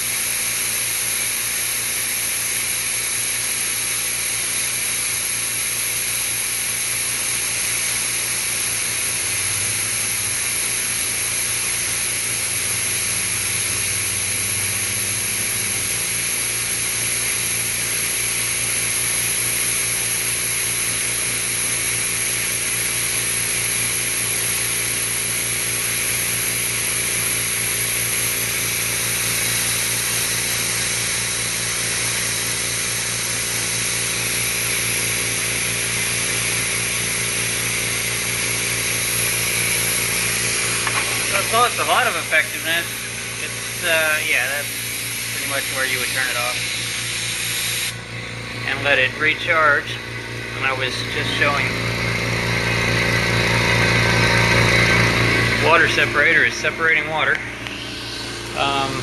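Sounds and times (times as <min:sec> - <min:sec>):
compressor motor hum: 0:00.0 - 0:59.0
air blowgun hissing: 0:00.1 - 0:49.9.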